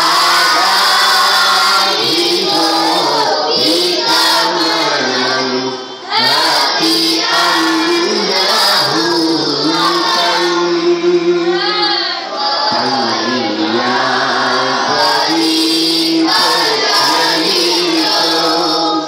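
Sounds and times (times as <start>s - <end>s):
group singing: 0.0s - 19.0s.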